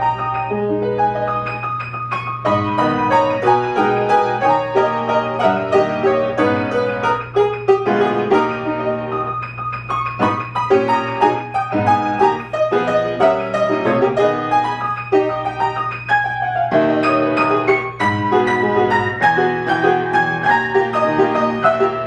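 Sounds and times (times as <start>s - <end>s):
piano playing: 0.0s - 22.0s.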